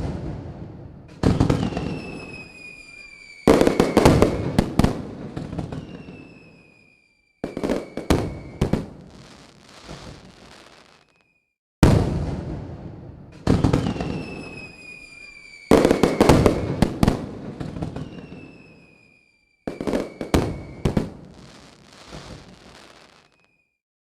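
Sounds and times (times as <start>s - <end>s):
fireworks bangs and crackles: 0.0s - 23.7s
whistling firework shells: 1.1s - 11.6s, 13.3s - 23.8s.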